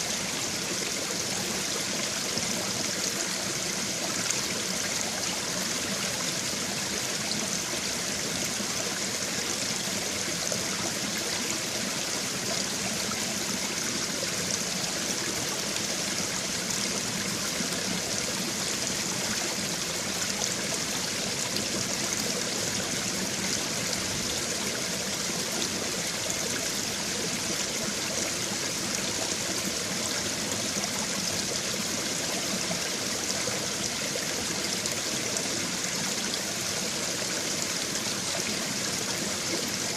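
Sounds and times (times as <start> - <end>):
stream water over stones: 0.0 - 39.9.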